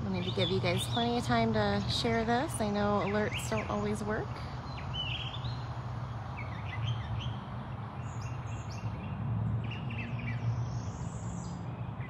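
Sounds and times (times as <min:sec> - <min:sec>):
birds chirping and whistling: 0:00.1 - 0:12.0.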